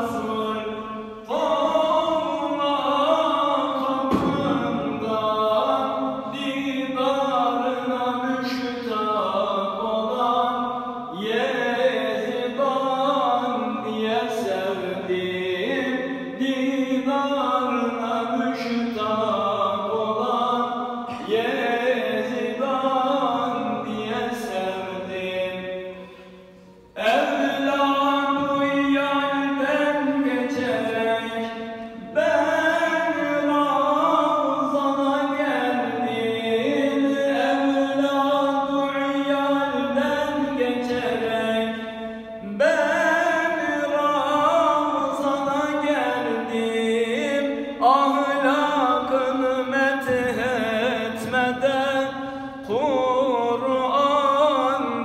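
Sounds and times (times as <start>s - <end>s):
person singing a hymn: 0.0s - 55.0s.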